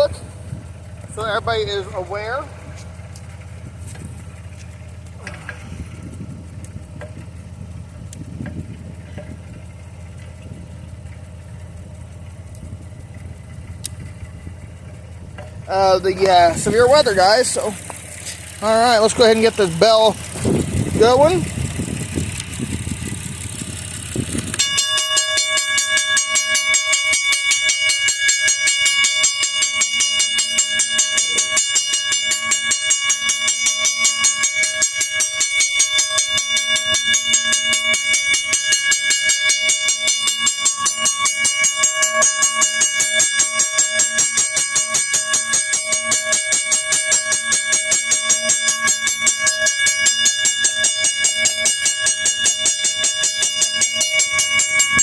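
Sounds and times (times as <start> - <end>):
railroad crossing bell ringing: 0.0 - 55.0.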